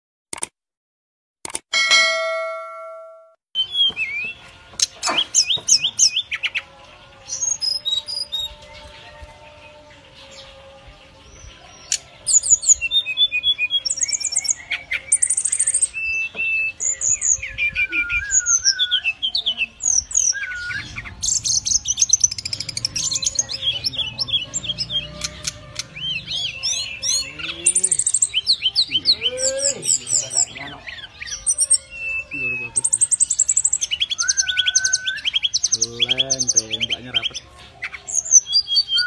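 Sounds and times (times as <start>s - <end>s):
bird singing varied song: 2.2s - 39.0s.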